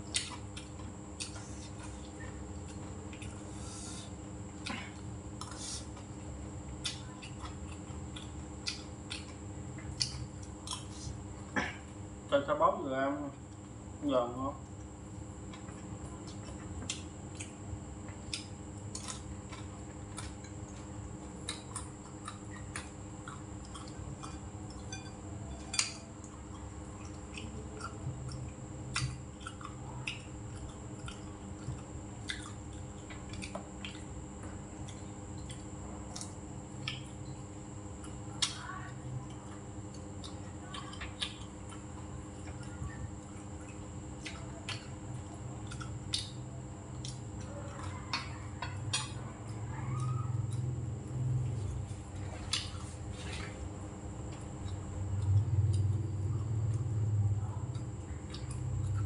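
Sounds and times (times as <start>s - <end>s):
chewing: 0.0s - 12.0s, 14.6s - 59.0s
steady background hum: 0.0s - 59.0s.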